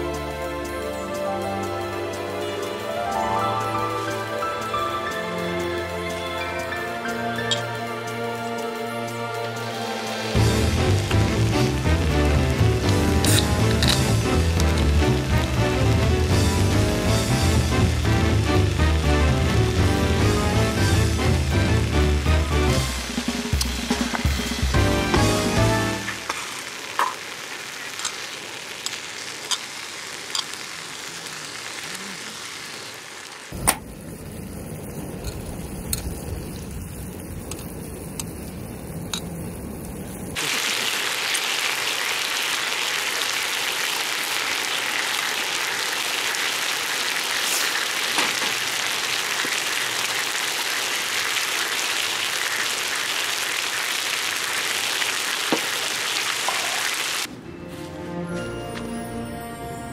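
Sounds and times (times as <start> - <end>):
sizzling hiss with pops and crackles: 0.0 - 57.3.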